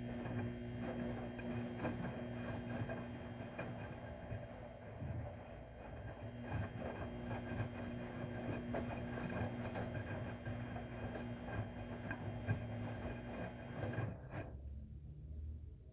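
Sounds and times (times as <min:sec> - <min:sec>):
washing machine running: 0:00.0 - 0:14.8.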